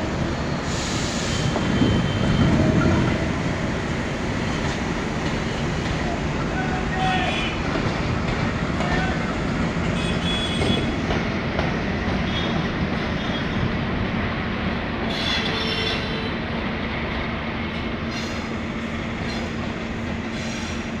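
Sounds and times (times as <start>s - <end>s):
diesel locomotive engine drone: 0.0s - 21.0s.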